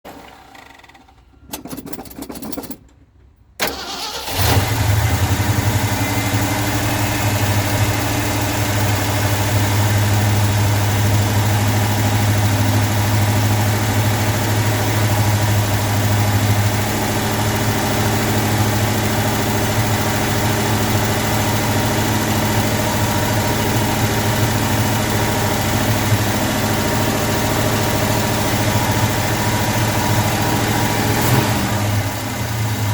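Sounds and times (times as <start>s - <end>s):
pickup engine starting and idling: 0.1s - 32.9s.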